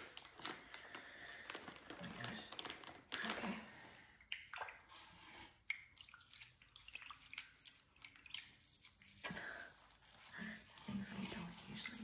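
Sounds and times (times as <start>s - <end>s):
water dripping: 0.0s - 12.0s
wet clay squishing: 0.0s - 12.0s.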